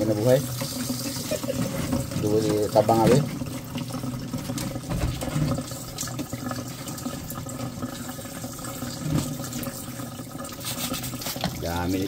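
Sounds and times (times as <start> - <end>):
tap water running into steel sink: 0.0 - 12.0.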